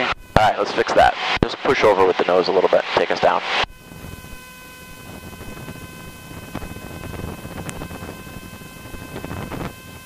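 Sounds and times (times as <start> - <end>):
aircraft engine and propeller droning: 0.0 - 10.0.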